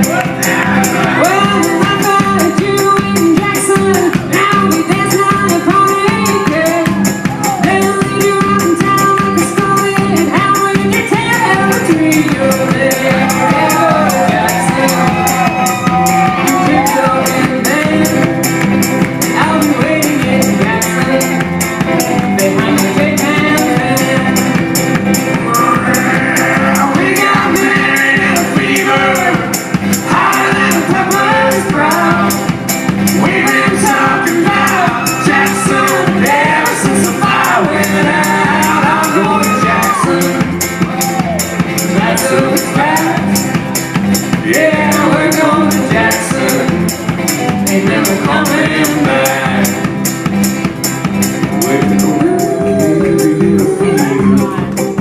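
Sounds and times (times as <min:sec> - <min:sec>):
person singing: 0:00.0 - 0:43.6, 0:44.3 - 0:50.1, 0:51.4 - 0:55.0
driving percussion beat: 0:00.0 - 0:55.0.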